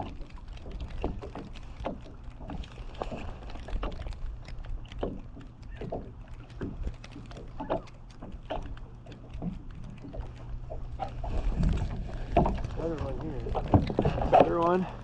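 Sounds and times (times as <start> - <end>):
fishing gear knocks and clicks: 0.0 - 15.0
steady low rumble: 2.1 - 15.0.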